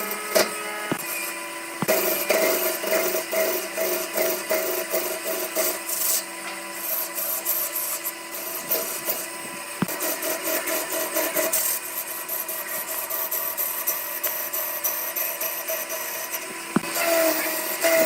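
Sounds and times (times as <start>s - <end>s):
lathe motor humming: 0.0s - 18.0s
tool scraping spinning wood: 0.0s - 18.0s.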